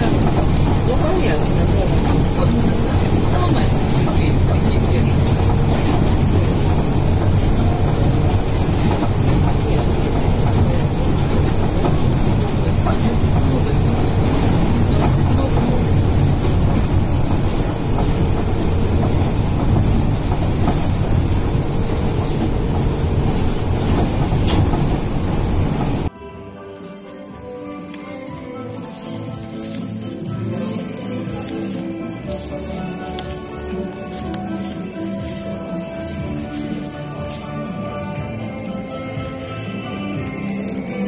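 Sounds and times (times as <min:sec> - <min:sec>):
train wheels rumbling: 0:00.0 - 0:26.1, 0:27.8 - 0:41.0.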